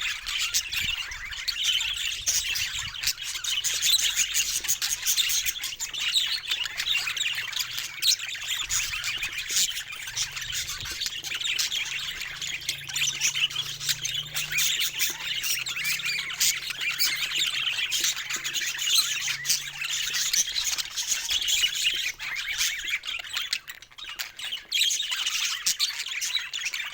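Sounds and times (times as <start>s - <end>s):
budgerigars chirping and chattering: 0.0s - 26.9s.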